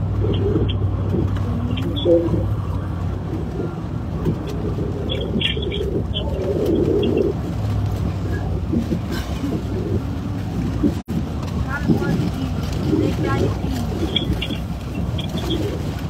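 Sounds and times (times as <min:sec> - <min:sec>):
car engine hum inside cabin: 0:00.0 - 0:16.0.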